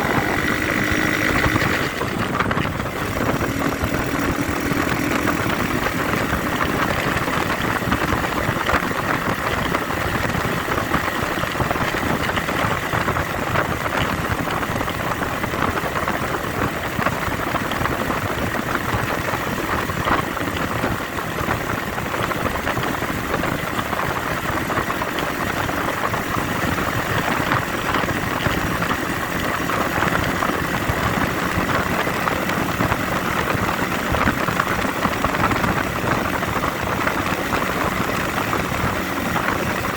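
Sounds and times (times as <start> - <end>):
dense rushing noise: 0.0 - 39.9
motorcycle engine running: 0.0 - 39.9.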